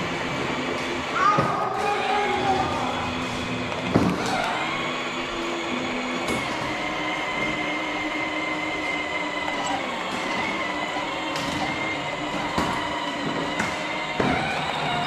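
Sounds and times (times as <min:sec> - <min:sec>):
electric motor whine: 0:00.0 - 0:15.0
plastic wheels rolling: 0:00.0 - 0:15.0.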